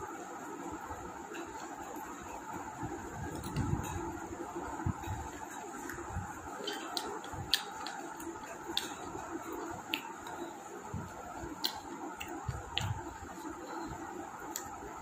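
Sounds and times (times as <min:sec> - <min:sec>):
electric fan hum: 0:00.0 - 0:15.0
mouth clicks and smacks chewing: 0:01.3 - 0:15.0.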